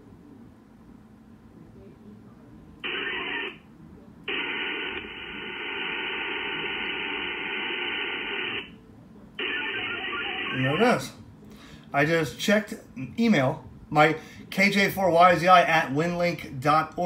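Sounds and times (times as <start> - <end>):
faint radio band noise: 0.0 - 17.0.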